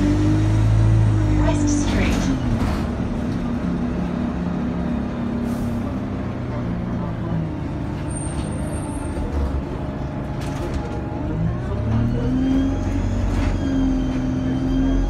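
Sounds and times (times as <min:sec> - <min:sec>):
bus engine rumbling: 0:00.0 - 0:15.0
rising whine of bus: 0:00.0 - 0:15.0.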